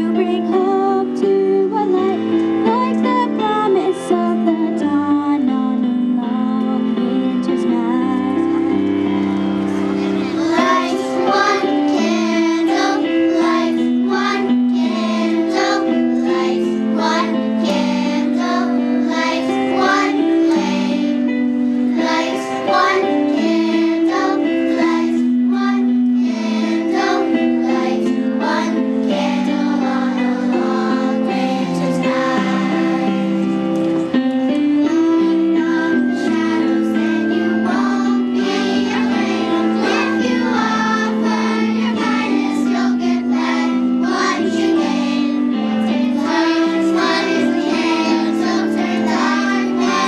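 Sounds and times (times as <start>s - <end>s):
children's choir singing: 0.0s - 5.0s, 6.9s - 50.0s.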